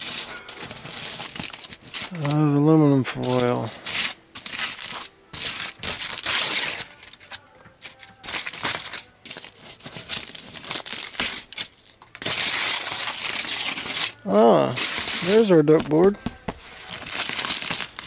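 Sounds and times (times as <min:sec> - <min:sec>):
aluminium foil crinkling and tearing: 0:00.0 - 0:18.0.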